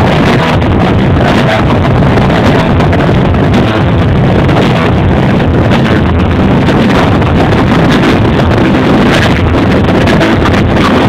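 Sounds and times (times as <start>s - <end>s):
distorted overloaded microphone noise: 0.0s - 11.0s.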